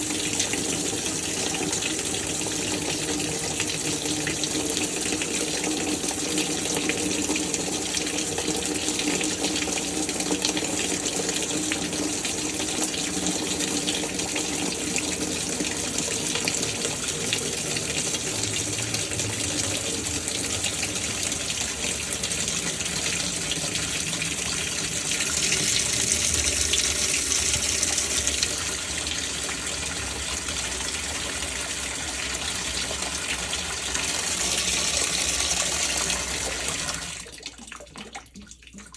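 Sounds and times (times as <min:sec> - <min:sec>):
water rushing into washer tub: 0:00.0 - 0:38.9.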